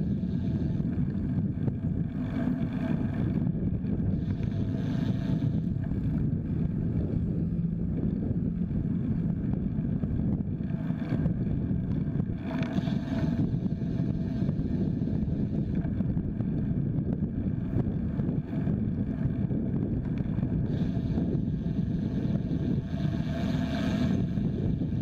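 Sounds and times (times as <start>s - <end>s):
passing road traffic: 0.0s - 25.0s
wind buffeting microphone: 0.0s - 25.0s.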